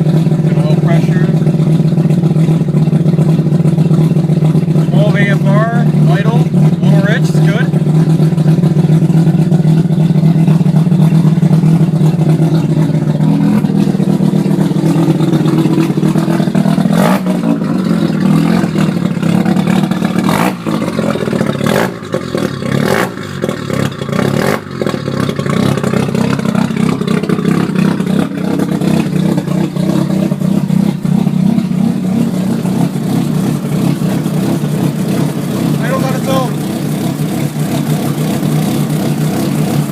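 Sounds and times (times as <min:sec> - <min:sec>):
exhaust cracks: 0:00.0 - 0:39.9
rotary engine running: 0:00.0 - 0:39.9.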